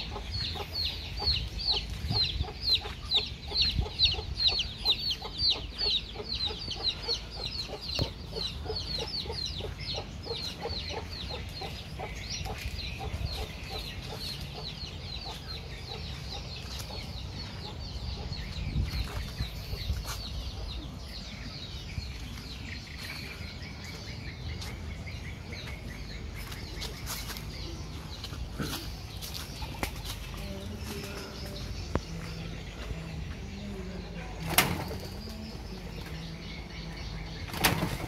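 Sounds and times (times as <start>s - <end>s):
steady low rumble: 0.0s - 34.4s
chickens clucking: 0.0s - 38.0s.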